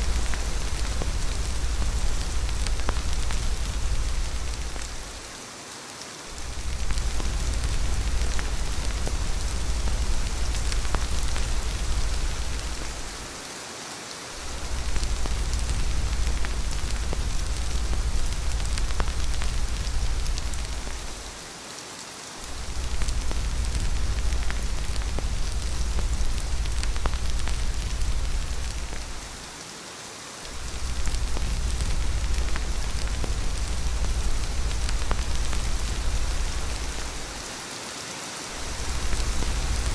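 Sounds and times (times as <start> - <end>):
deep low rumble: 0.0 - 5.2, 6.4 - 13.3, 14.4 - 21.4, 22.5 - 29.4, 30.5 - 37.4, 38.6 - 39.9
heavy rain falling: 0.0 - 39.9.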